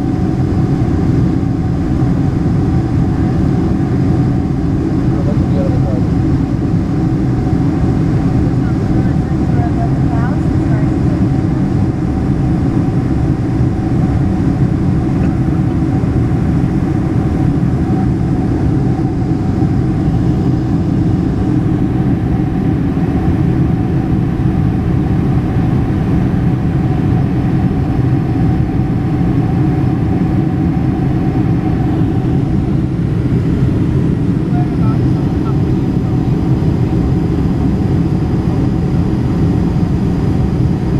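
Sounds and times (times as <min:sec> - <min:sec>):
jet cabin rumble: 0:00.0 - 0:40.9.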